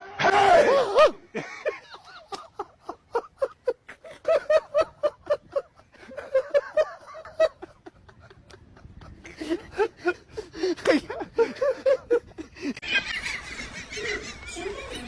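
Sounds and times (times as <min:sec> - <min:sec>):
person laughing: 0:00.8 - 0:15.0.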